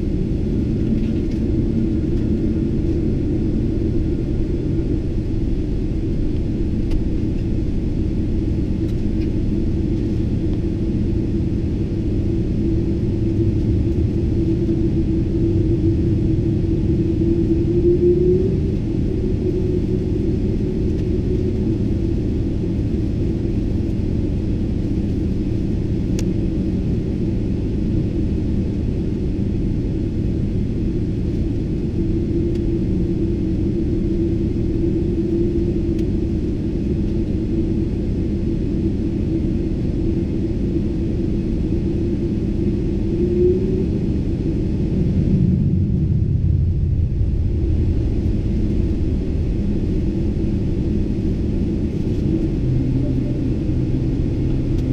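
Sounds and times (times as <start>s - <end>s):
airliner engine rumble and drone: 0.0s - 54.9s.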